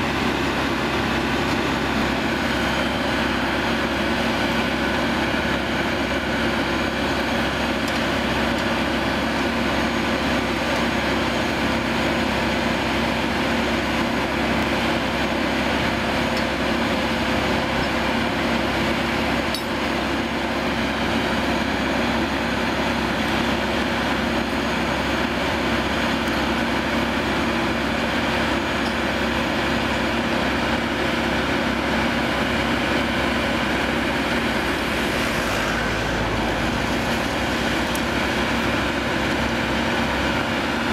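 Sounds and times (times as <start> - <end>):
machine engine humming: 0.0 - 40.9.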